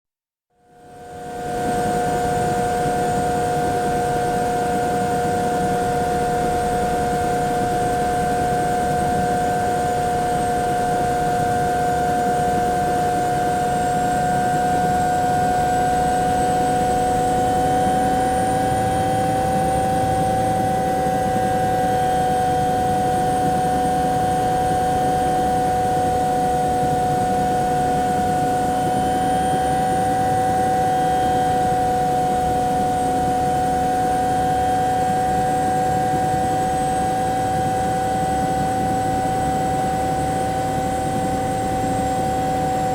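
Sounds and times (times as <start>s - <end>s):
helicopter engine and rotor idling: 0.6s - 42.9s.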